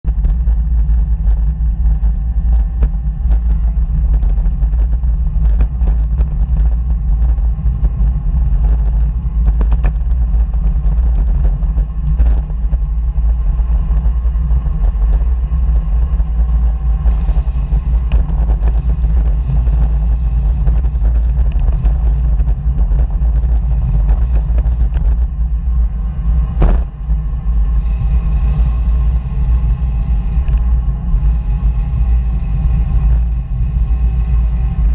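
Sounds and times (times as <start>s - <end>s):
wind and road noise rumble: 0.0s - 34.9s.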